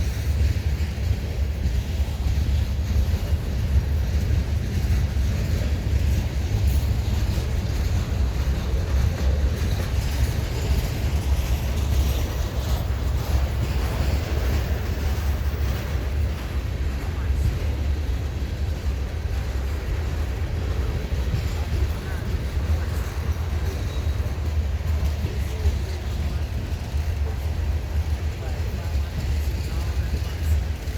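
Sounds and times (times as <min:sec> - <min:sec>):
steel wheels rumbling on rail: 0:00.0 - 0:30.9.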